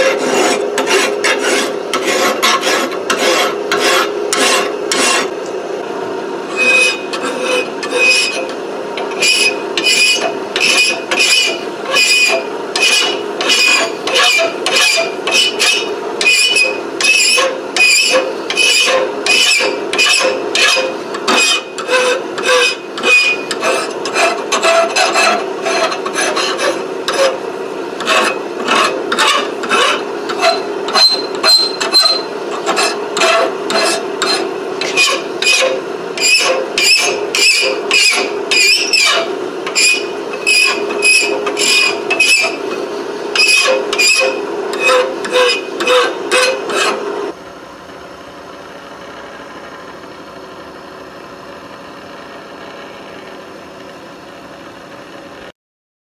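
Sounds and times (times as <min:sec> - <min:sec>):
hand file scraping steel: 0:00.0 - 0:05.3, 0:06.5 - 0:27.4, 0:28.0 - 0:47.0.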